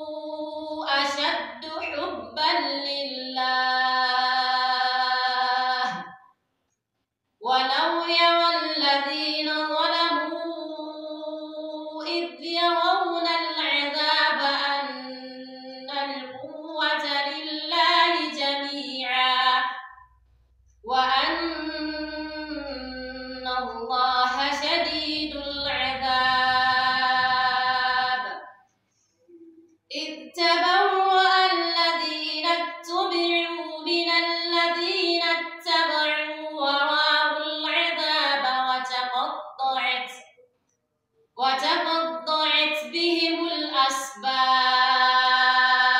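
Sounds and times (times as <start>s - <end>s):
woman chanting recitation: 0.0s - 6.2s, 7.4s - 20.1s, 20.8s - 28.6s, 29.9s - 40.4s, 41.4s - 45.9s.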